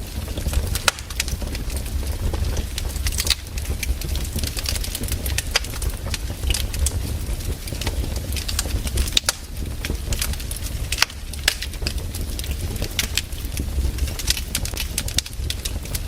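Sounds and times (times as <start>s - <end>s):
fire low rumble: 0.0s - 16.0s
firewood crackling and popping: 0.0s - 16.0s.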